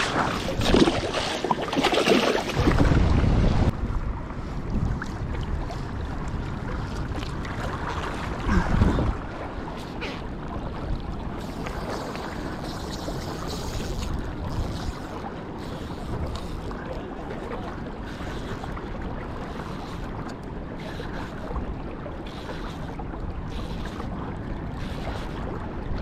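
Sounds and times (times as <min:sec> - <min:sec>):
wind buffeting microphone: 0:00.0 - 0:22.2
water lapping in shallows: 0:00.0 - 0:26.0.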